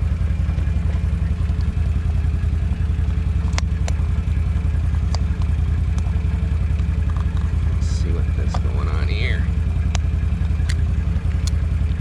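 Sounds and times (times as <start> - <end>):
air compressor droning: 0.0 - 9.8.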